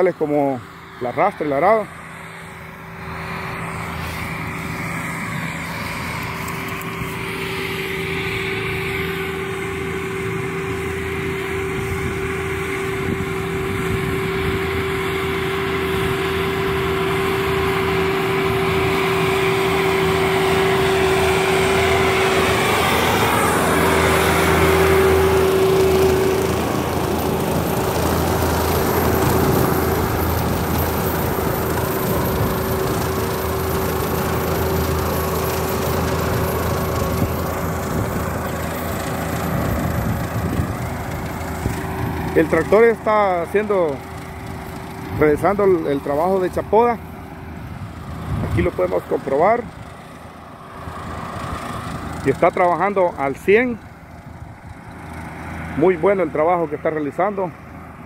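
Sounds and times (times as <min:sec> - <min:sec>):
rotary mower whine: 0:00.0 - 0:58.0
tractor engine hum: 0:00.0 - 0:58.0.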